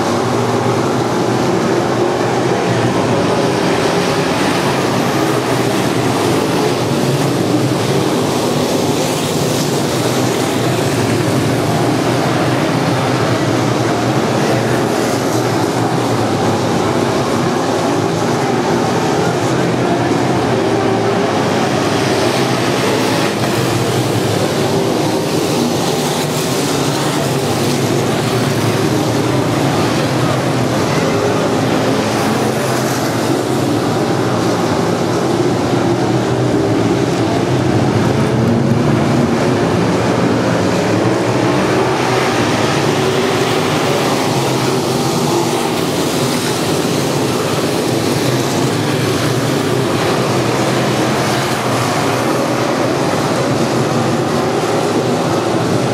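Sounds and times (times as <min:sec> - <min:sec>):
race car engines droning: 0:00.0 - 0:55.9.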